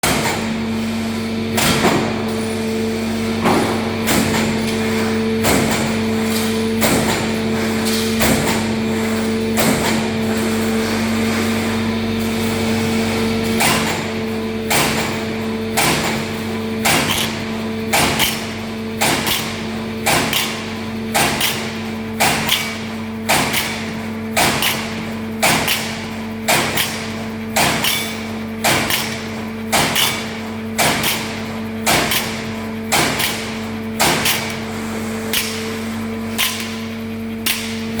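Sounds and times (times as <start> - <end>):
punch press striking sheet metal: 0.0 - 0.7, 1.5 - 2.6, 3.4 - 10.7, 13.4 - 38.0
machine hum: 0.0 - 38.0.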